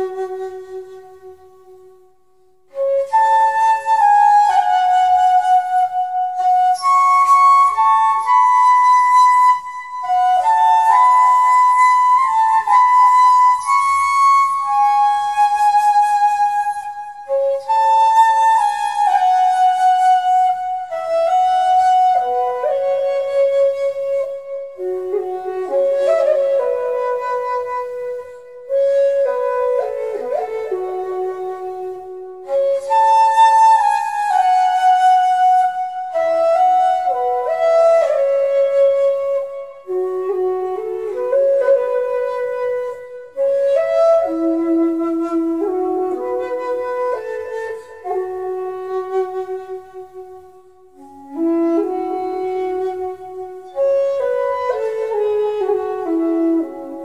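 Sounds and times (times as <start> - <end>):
slow flute melody: 0.0 - 57.0.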